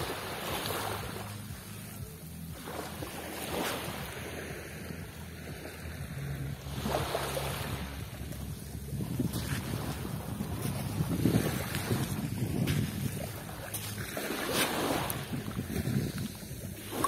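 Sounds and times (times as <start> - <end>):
sea waves washing on shore: 0.0 - 17.0
low steady hum: 0.2 - 14.4
wind buffeting microphone: 2.0 - 17.0.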